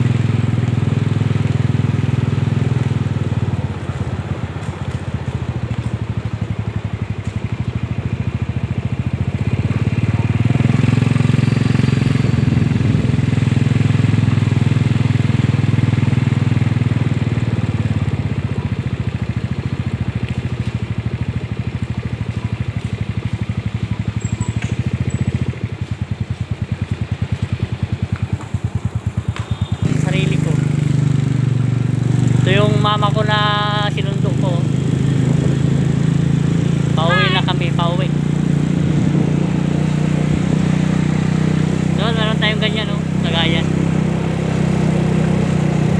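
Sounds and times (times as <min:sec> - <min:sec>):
motorcycle engine drone: 0:00.0 - 0:45.9
road and air noise: 0:00.0 - 0:45.9.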